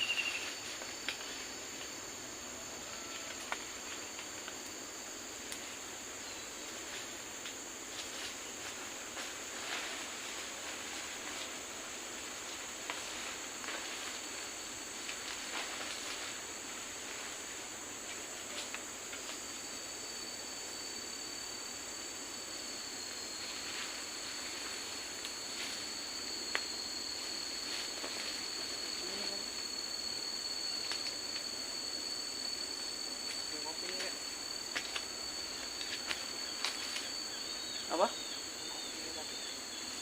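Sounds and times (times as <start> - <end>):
even hiss: 0.0 - 40.0
high steady insect tone: 0.0 - 40.0
insects droning: 0.0 - 40.0.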